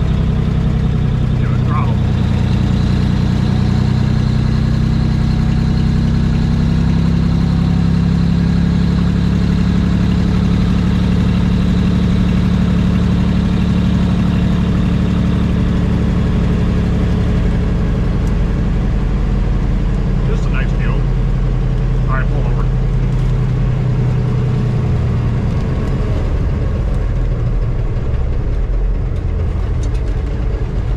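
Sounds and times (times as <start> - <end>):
truck engine droning: 0.0 - 30.9.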